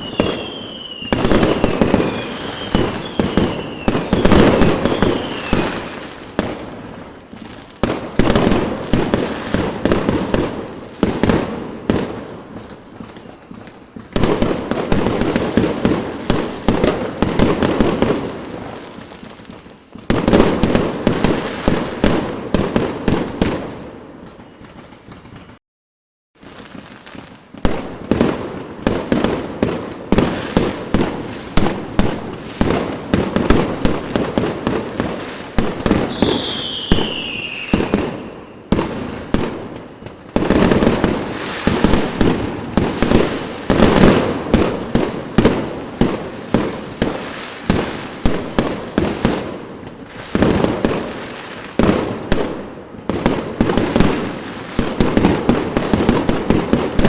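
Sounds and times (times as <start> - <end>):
fireworks bangs and crackles: 0.0 - 25.6, 26.4 - 57.0
whistling firework: 0.0 - 25.6, 26.4 - 57.0.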